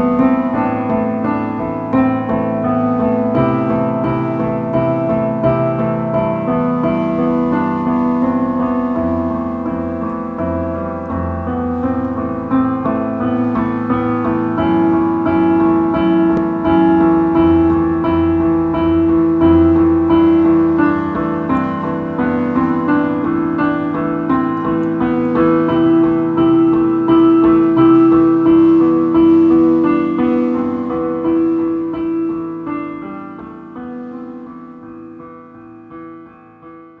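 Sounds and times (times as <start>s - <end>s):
solo piano: 0.0s - 37.0s.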